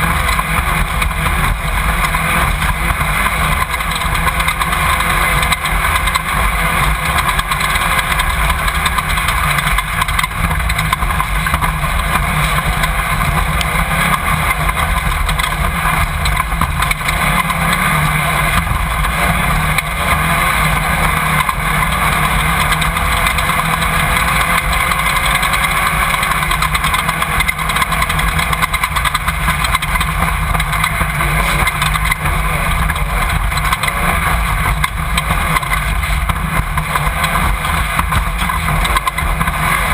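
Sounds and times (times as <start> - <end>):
race car engine running loud: 0.0 - 39.9.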